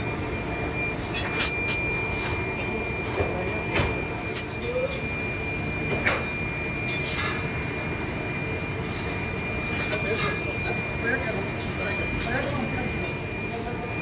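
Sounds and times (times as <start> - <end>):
foundry machinery din: 0.0 - 14.0
high machine whine: 0.0 - 14.0.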